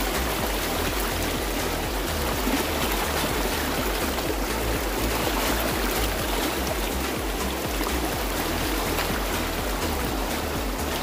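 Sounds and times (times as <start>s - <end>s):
river rapids rushing water: 0.0s - 11.0s.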